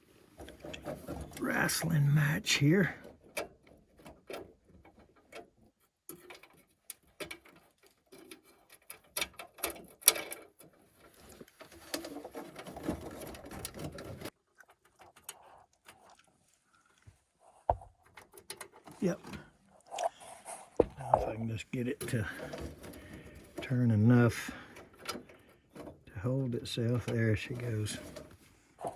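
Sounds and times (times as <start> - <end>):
rustling: 2.6 - 28.9.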